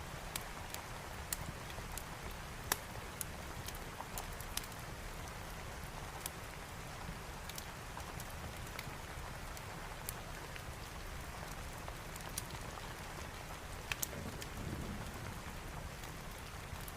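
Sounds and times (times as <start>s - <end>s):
steady rain: 0.0s - 16.9s.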